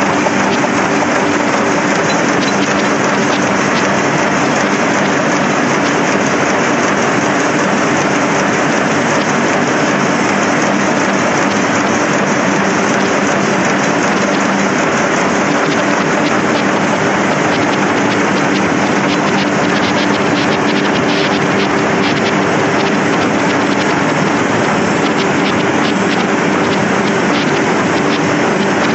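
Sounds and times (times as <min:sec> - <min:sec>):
low machine hum: 0:00.0 - 0:28.9
printing press machine hiss: 0:00.0 - 0:28.9.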